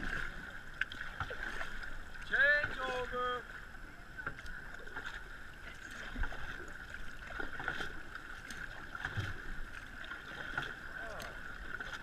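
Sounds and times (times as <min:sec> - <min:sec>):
water lapping against canoe hull: 0:00.0 - 0:12.0.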